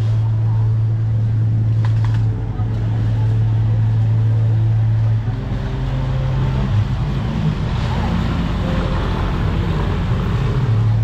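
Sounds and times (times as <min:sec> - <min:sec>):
low engine hum: 0:00.0 - 0:11.0
people talking: 0:00.0 - 0:11.0
street noise: 0:00.0 - 0:11.0.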